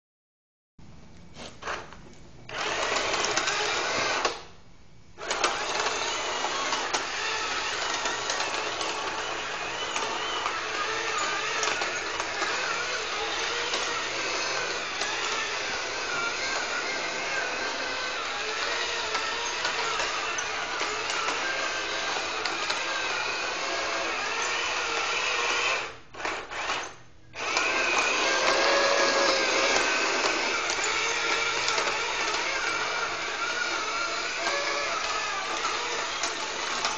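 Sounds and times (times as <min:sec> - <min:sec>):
small electric motors whirring: 0:02.5 - 0:04.5, 0:05.2 - 0:36.9.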